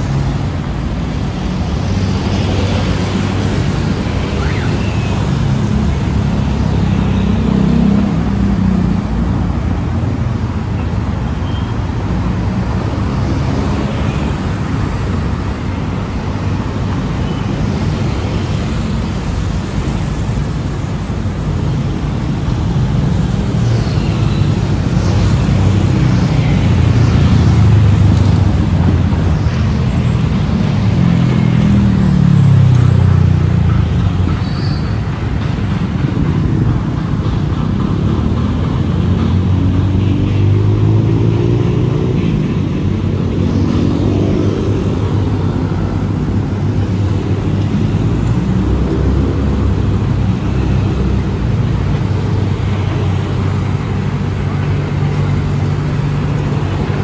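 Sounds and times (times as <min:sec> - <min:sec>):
car and bus engines running: 0:00.0 - 0:57.0
vehicles passing close by: 0:00.0 - 0:57.0.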